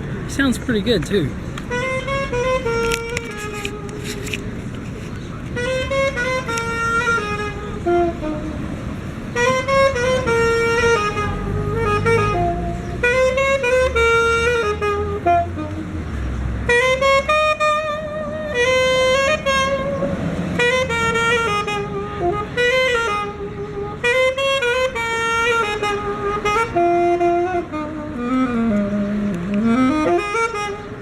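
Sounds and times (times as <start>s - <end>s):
saxophone playing jazz melody: 1.5s - 31.0s.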